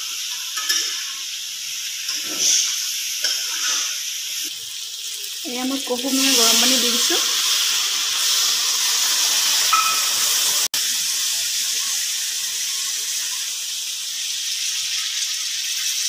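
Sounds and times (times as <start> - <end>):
hot oil hissing and sizzling: 0.0 - 16.0.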